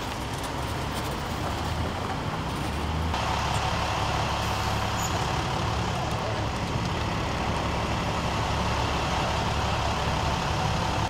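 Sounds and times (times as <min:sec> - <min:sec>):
heavy vehicle engine humming: 0:00.0 - 0:11.0.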